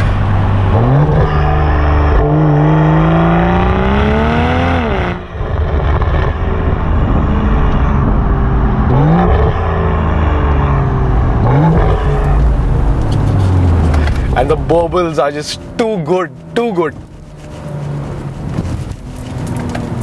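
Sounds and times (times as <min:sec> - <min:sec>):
car exhaust revving: 0:00.0 - 0:20.0.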